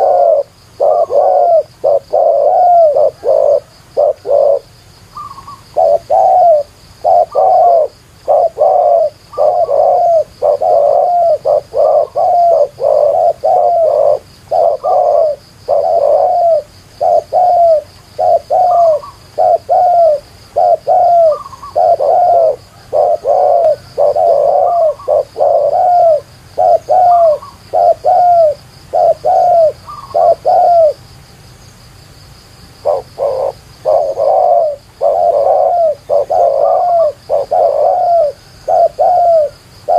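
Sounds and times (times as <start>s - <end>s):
doves cooing: 0.0s - 31.0s, 32.8s - 39.9s.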